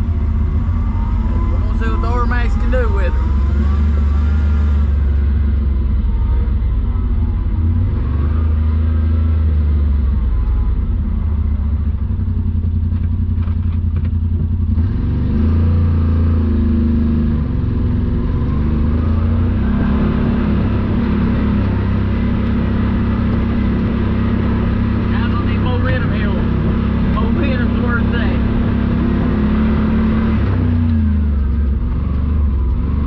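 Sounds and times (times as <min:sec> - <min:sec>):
utility vehicle engine running: 0:00.0 - 0:33.0.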